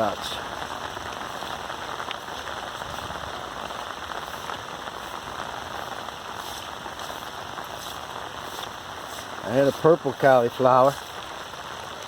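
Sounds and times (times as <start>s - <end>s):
rain pattering on ground: 0.0s - 12.0s.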